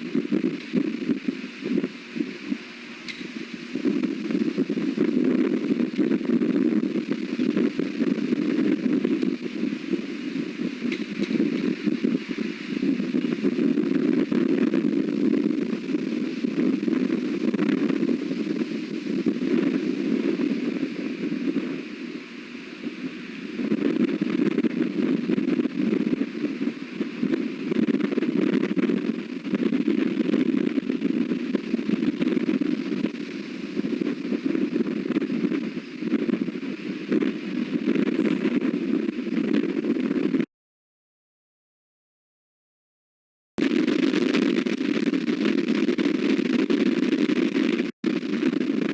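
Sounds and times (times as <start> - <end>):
strong wind buffeting microphone: 0.0 - 40.5, 43.6 - 48.9.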